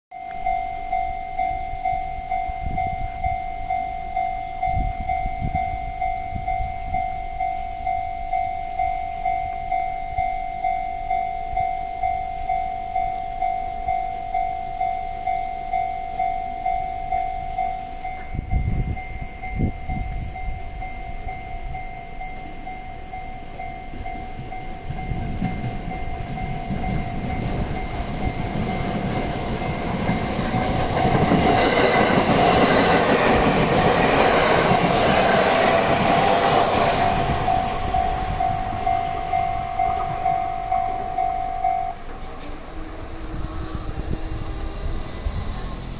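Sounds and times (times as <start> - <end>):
level-crossing warning bell ringing: 0.1 - 45.9
train rumble and wheel clatter: 0.2 - 45.9.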